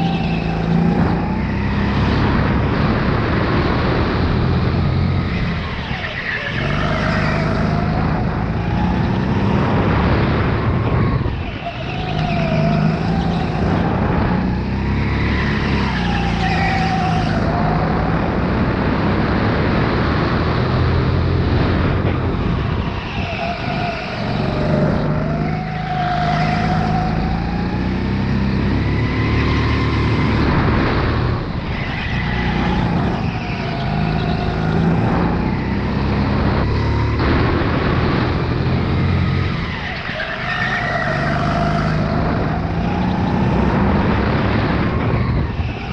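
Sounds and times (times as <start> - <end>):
go-kart engine revving: 0.0 - 45.9.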